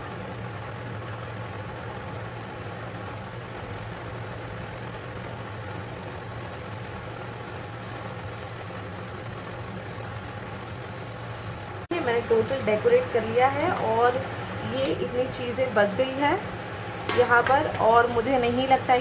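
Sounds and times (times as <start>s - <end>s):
steady low hum with hiss: 0.0s - 19.0s.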